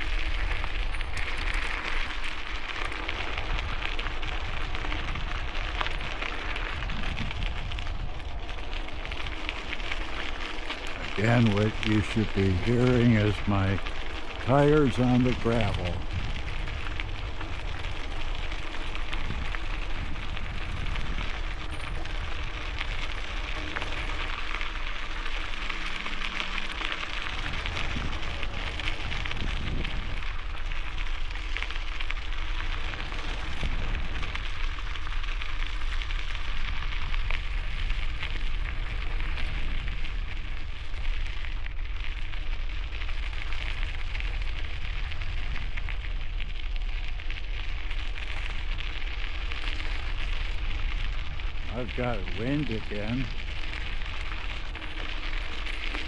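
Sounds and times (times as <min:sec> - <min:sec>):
bicycle tires crunching gravel: 0:00.0 - 0:56.0
wind rumble on microphone: 0:00.0 - 0:56.0.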